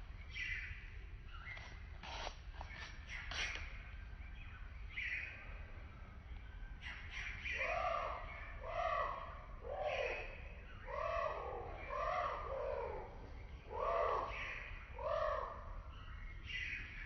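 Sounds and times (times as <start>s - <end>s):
wild birds calling: 0.0s - 5.8s, 6.5s - 17.0s.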